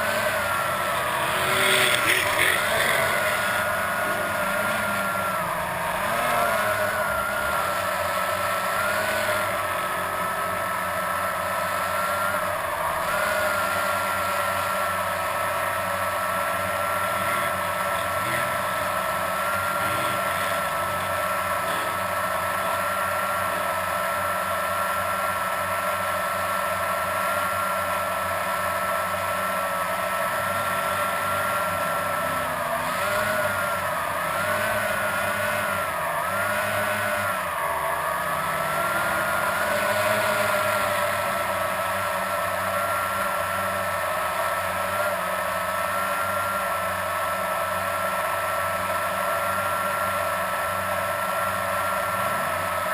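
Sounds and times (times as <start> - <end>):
quadcopter motors whining: 0.0 - 52.9.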